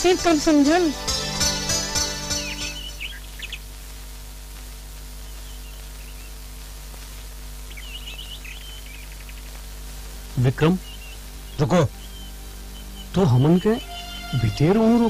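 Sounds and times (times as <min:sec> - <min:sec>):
steady low hum: 0:00.0 - 0:15.0
small birds chirping: 0:02.0 - 0:15.0.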